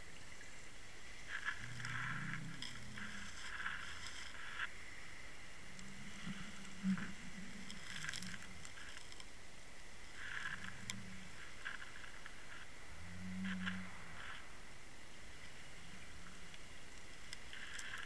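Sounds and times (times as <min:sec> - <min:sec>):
underwater rumble of moving water: 0:00.0 - 0:18.0.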